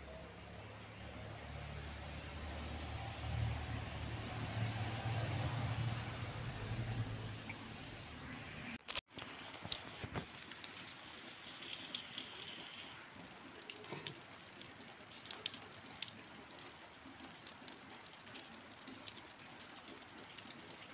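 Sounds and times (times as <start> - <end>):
rain falling: 0.2 - 20.9.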